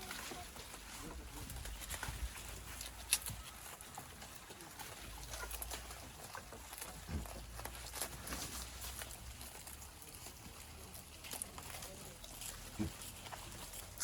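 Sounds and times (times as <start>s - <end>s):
goats chewing: 0.0s - 14.0s
leaves rustling: 0.0s - 14.0s.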